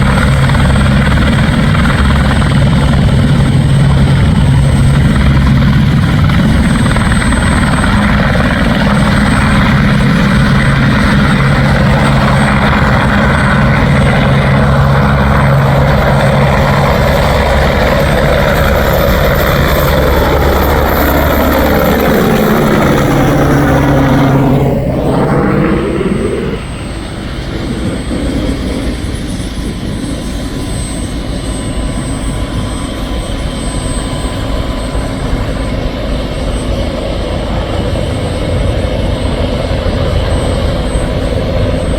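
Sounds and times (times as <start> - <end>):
helicopter passing by: 0.0 - 41.9.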